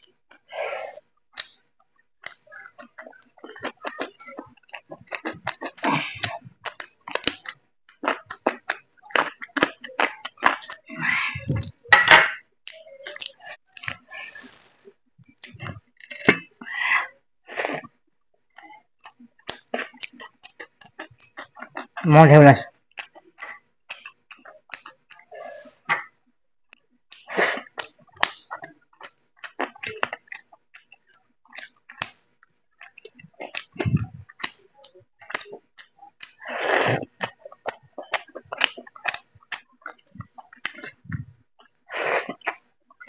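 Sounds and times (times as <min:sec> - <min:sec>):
person chewing and lip-smacking: 0:00.0 - 0:11.9, 0:12.6 - 0:16.7, 0:17.6 - 0:43.0.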